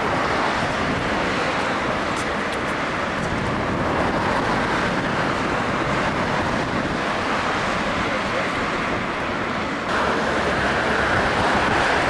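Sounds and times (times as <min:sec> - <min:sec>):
street traffic noise: 0:00.0 - 0:12.0
tram running past: 0:00.0 - 0:12.0.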